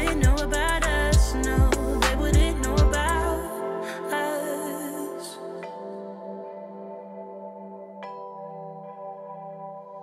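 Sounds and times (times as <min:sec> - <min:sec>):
soft slow song: 0:00.0 - 0:10.0.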